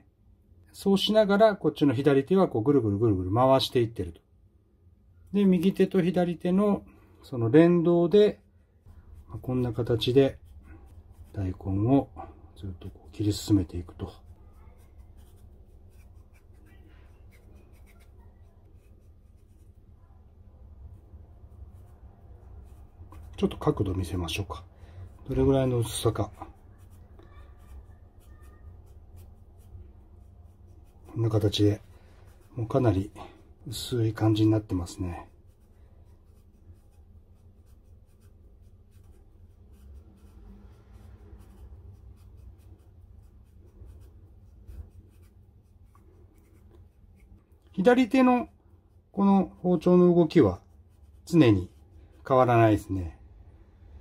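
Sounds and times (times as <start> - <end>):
low steady hum: 4.2 - 54.0
knife shaving radish: 8.9 - 53.1.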